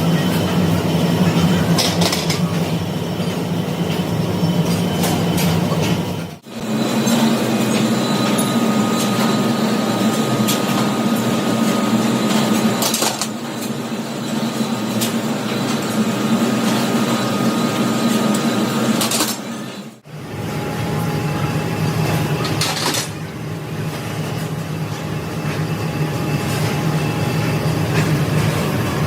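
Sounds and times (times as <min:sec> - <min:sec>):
industrial machinery hum: 0:00.0 - 0:29.0.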